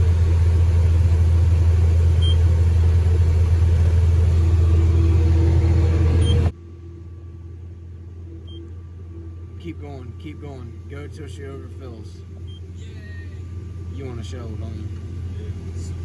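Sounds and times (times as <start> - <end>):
combine harvester rumbling: 0.0 - 16.0
faint low hum: 3.0 - 16.0.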